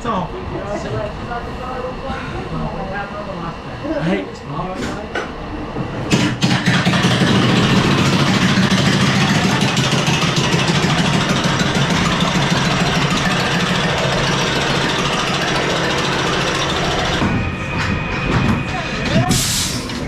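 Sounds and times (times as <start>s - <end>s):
ride car rumbling along track: 0.0s - 20.0s.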